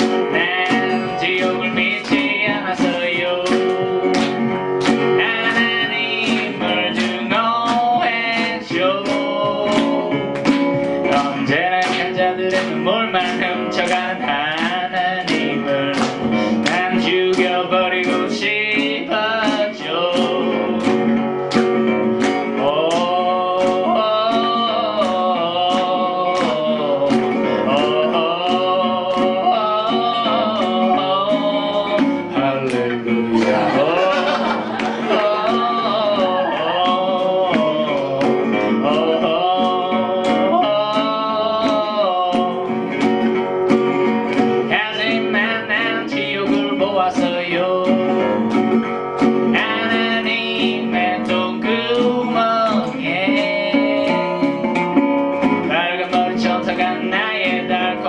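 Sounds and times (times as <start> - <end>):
man singing: 0.0 - 21.2, 22.4 - 43.2, 44.5 - 48.8, 49.4 - 58.0
acoustic guitars strumming: 0.0 - 58.0.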